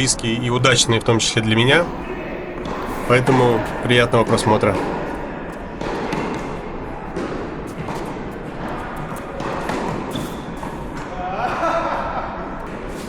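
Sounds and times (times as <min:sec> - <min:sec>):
tennis balls bouncing on court: 0:00.0 - 0:11.1
tennis balls hit by rackets: 0:00.0 - 0:11.1.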